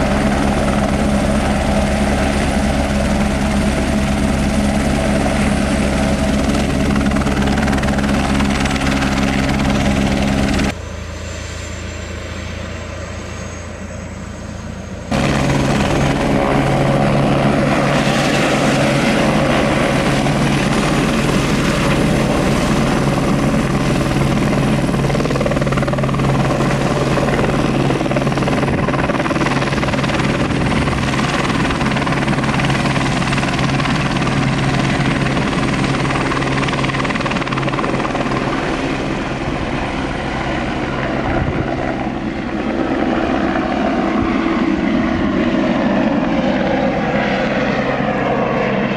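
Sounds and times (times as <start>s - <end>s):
helicopter engine and rotor: 0.0s - 48.9s.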